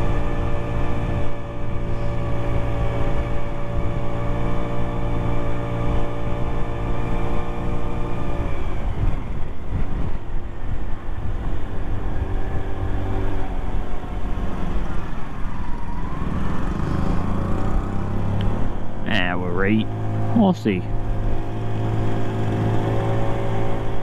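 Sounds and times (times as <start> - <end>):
heavy wind rumble: 0.0 - 4.5, 5.4 - 24.0.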